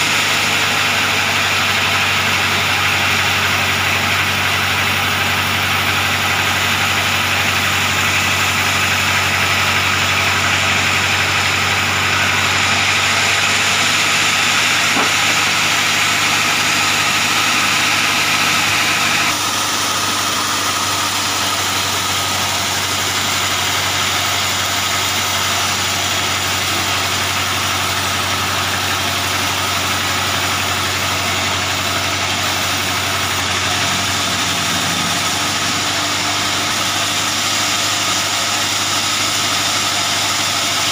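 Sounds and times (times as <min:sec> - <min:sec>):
band saw humming: 0:00.0 - 0:40.9.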